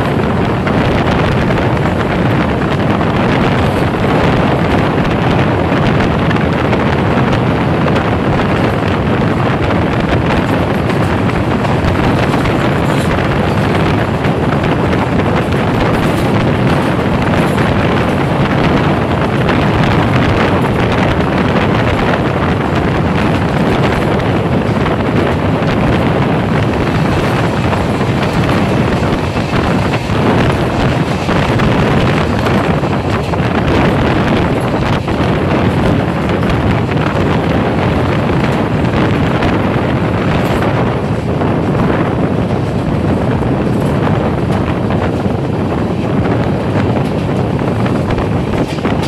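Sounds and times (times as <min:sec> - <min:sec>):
train wheels on rails: 0:00.0 - 0:49.0
wind buffeting microphone: 0:00.0 - 0:49.0.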